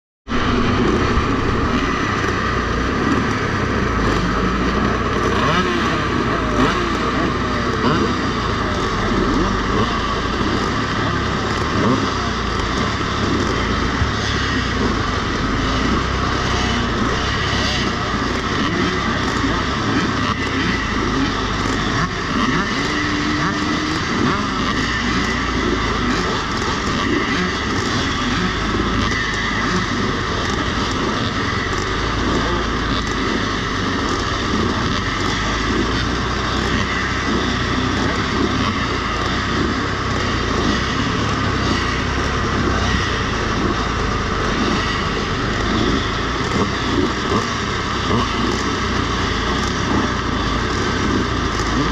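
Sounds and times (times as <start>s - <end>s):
motorcycle engines idling and revving: 0.2s - 51.9s.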